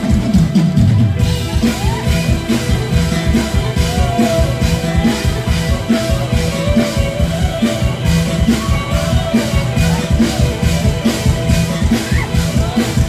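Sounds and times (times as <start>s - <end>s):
drum kit beat: 0.0s - 13.0s.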